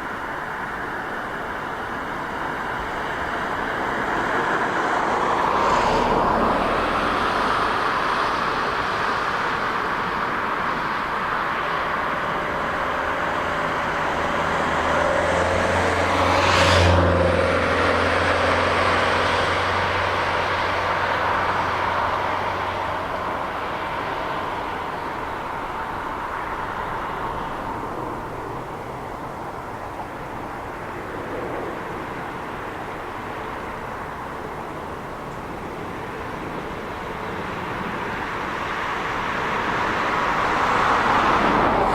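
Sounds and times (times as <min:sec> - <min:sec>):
jet airliner passing close: 0:00.6 - 0:41.9.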